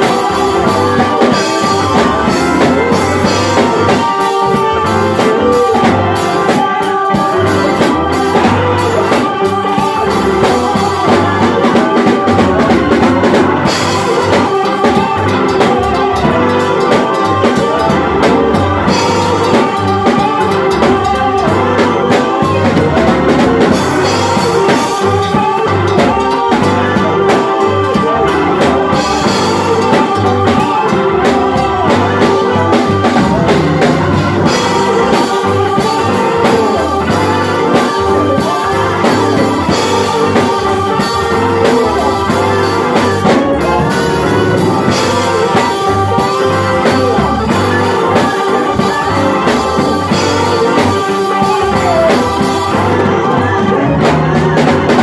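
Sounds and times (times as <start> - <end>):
drum kit beat: 0.0 - 55.0
organ playing held chords: 0.0 - 55.0.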